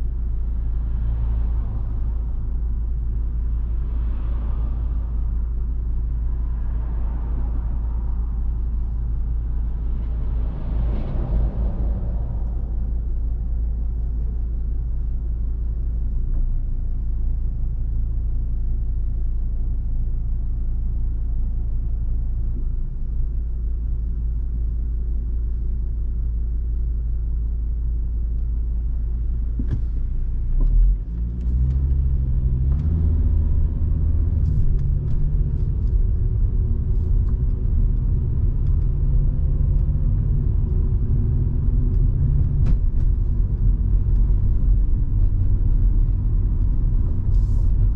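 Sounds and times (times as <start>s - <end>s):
car engine driving: 0.0s - 47.9s
road rumble: 0.0s - 47.9s.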